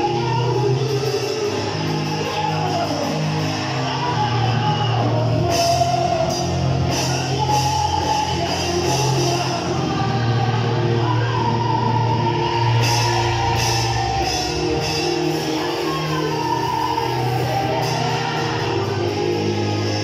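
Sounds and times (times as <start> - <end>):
worship band playing: 0.0 - 20.0.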